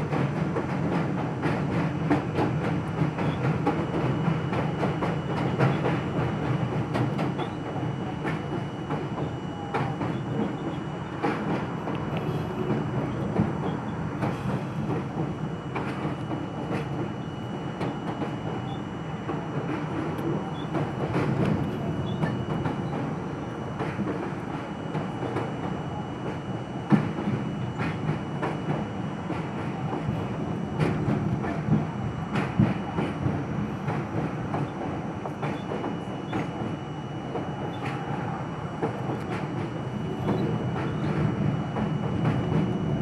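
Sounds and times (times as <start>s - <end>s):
subway car wheels rumbling: 0.0s - 43.0s.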